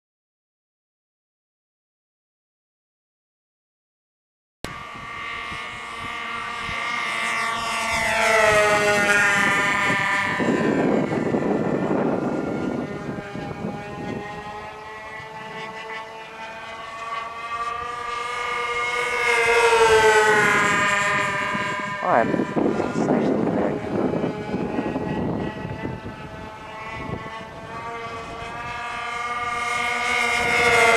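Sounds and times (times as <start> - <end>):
model airplane engines whining: 4.7 - 30.9.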